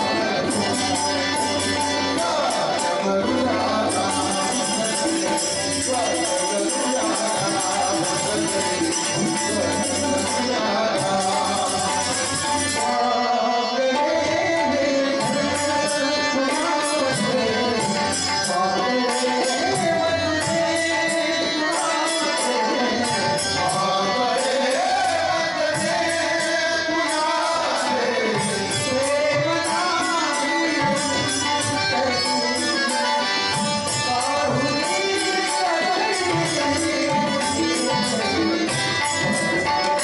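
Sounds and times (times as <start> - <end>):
harmonium: 0.0 - 40.0
man singing devotional melody: 0.0 - 40.0
tabla drumming: 0.0 - 40.0.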